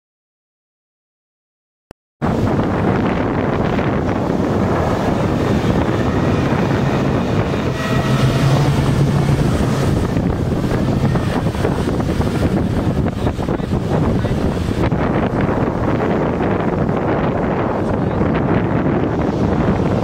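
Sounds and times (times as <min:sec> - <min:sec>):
wind buffeting microphone: 0:02.2 - 0:20.0
outboard engine running: 0:02.3 - 0:20.0.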